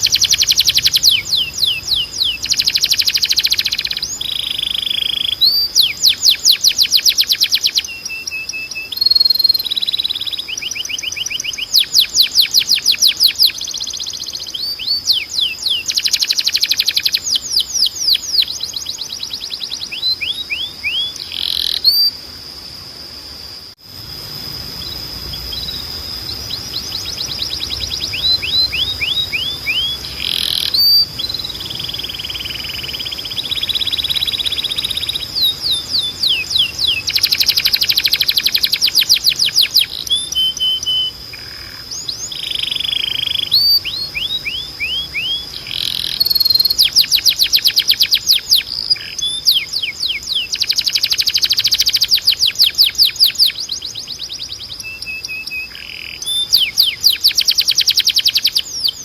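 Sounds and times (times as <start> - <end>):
canary singing trills: 0.0 - 22.8, 24.3 - 59.0
thin steady high tone: 0.0 - 59.0.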